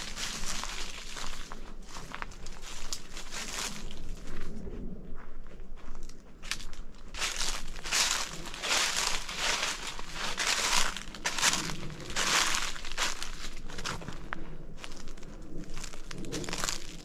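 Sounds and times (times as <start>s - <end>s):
footsteps crunching through dry leaves: 0.0s - 4.5s, 5.8s - 17.0s.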